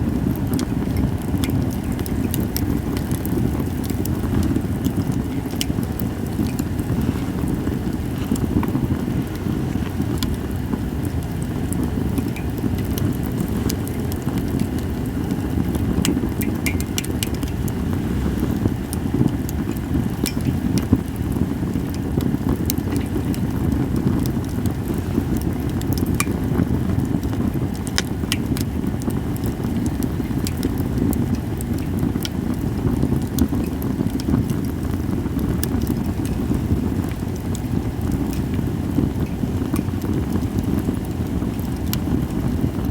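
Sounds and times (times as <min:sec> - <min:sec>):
campfire crackling: 0:00.0 - 0:42.9
sharp pops of fire: 0:00.0 - 0:42.9
steady low rumble: 0:00.0 - 0:42.9.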